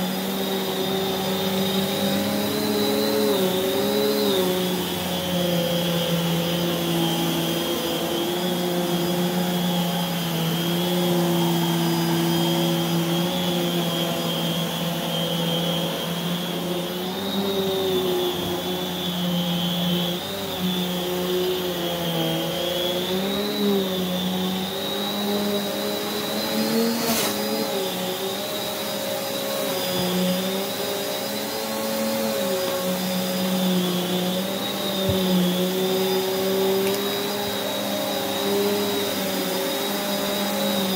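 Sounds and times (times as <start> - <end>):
vacuum cleaner motor whining: 0.0 - 40.9.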